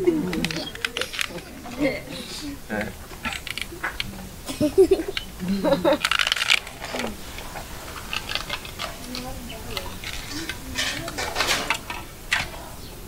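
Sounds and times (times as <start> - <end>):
faint murmuring voices: 0.0 - 13.0.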